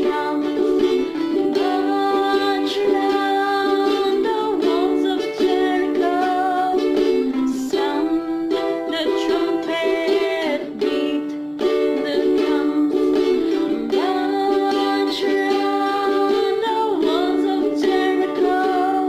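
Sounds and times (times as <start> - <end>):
ukulele music: 0.0 - 19.0.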